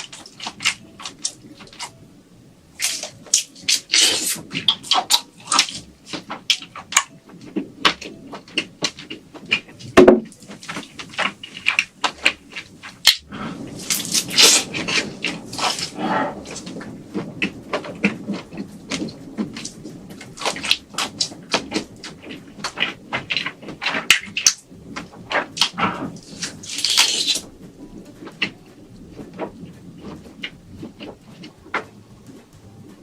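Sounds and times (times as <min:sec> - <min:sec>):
crisp eating crackles: 0:00.0 - 0:02.0, 0:02.7 - 0:33.0.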